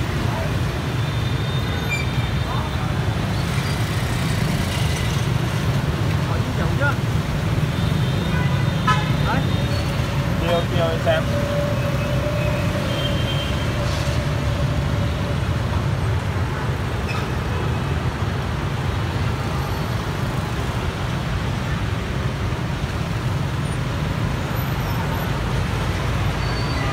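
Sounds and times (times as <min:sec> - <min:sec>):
street traffic rumble: 0:00.0 - 0:26.9.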